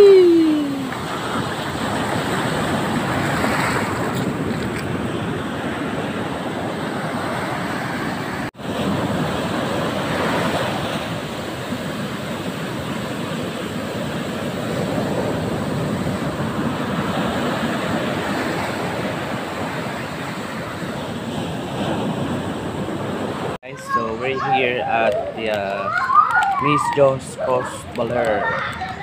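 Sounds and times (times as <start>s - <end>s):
sea waves breaking: 0.0s - 29.0s.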